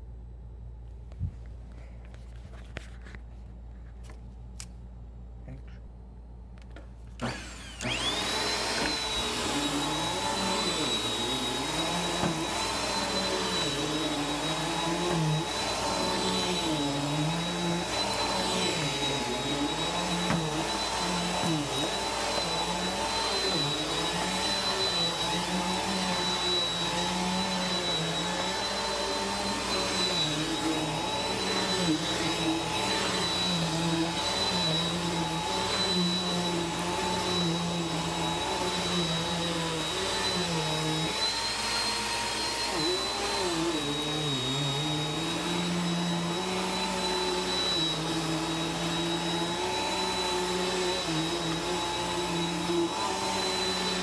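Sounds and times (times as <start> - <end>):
vacuum cleaner motor whining: 7.2 - 54.0.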